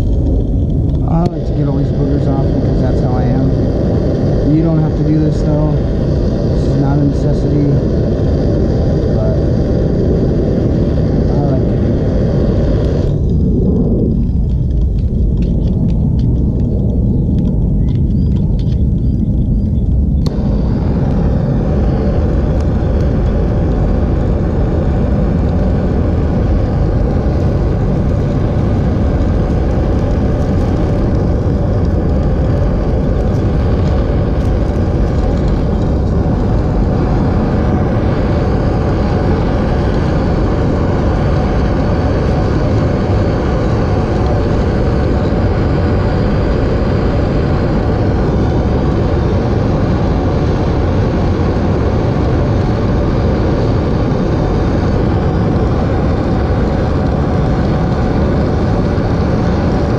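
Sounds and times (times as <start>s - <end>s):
torch flame roaring: 0.0s - 59.9s.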